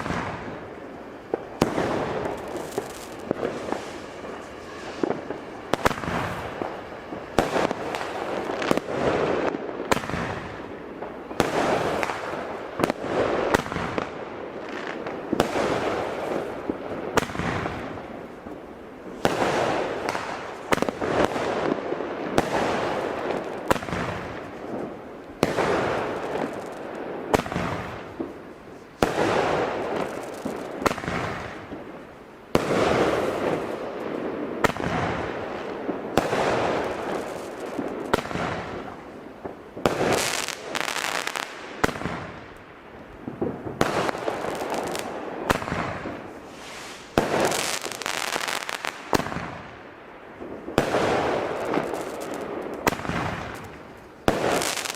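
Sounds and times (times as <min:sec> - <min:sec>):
firework bangs: 0:00.0 - 0:54.9
firework crackling: 0:00.0 - 0:54.9.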